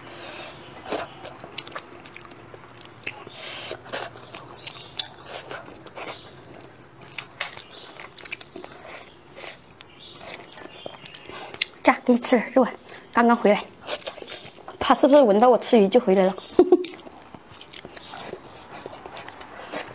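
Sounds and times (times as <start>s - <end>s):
chewing and biting: 0.6s - 11.8s, 12.8s - 14.8s, 16.4s - 19.9s.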